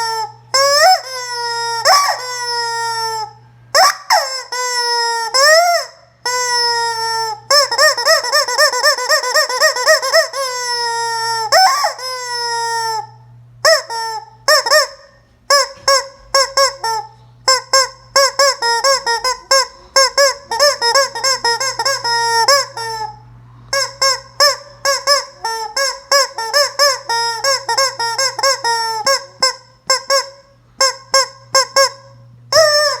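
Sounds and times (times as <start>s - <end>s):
rubber chicken toy screaming: 0.0s - 33.0s.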